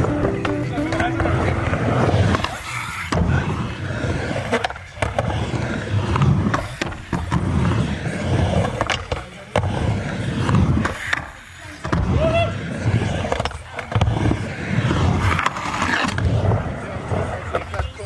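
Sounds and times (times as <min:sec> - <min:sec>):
skateboard clacking on ground: 0:00.0 - 0:18.0
skateboard wheels rolling on concrete: 0:00.0 - 0:18.0.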